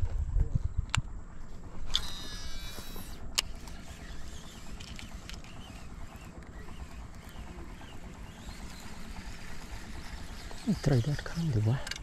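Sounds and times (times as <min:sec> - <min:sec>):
fishing reel whining: 0:01.7 - 0:12.0.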